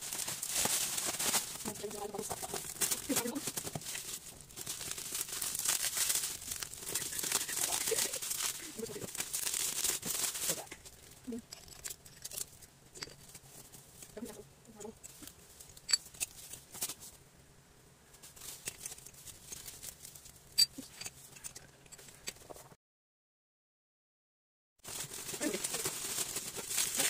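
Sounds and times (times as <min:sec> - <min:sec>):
bubble wrap crinkling: 0:00.0 - 0:17.2, 0:18.2 - 0:20.5, 0:24.8 - 0:27.0.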